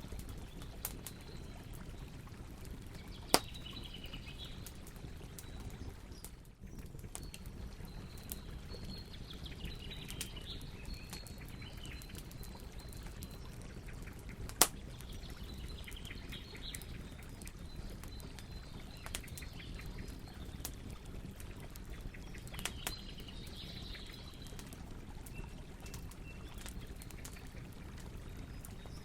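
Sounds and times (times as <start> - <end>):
campfire crackling and popping: 0.0 - 29.0
small birds chirping: 0.1 - 29.0.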